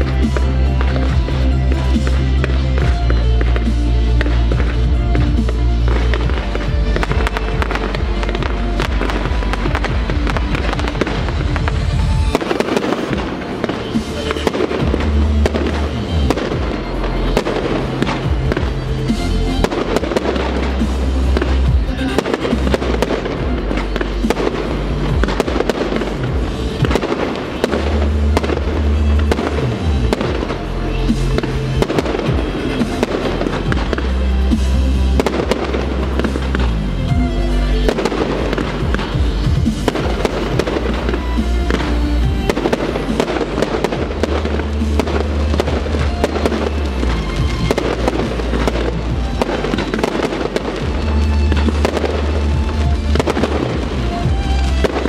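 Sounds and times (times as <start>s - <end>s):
fireworks bursting and crackling: 0.0s - 55.0s
loud music with deep bass: 0.0s - 55.0s.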